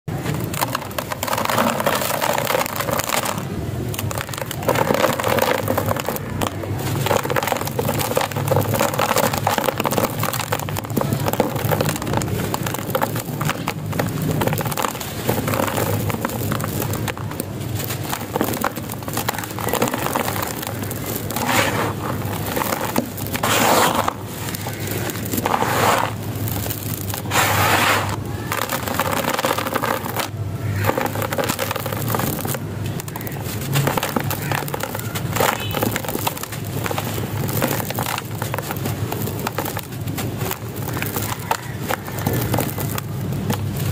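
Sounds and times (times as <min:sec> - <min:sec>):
gravel pouring into a basin: 0:00.1 - 0:43.9
sand crushed and crumbled by hand: 0:00.1 - 0:43.9.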